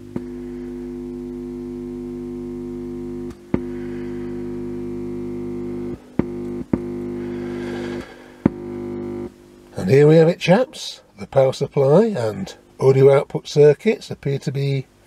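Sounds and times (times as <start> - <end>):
mains hum through loudspeaker: 0.0 - 15.0.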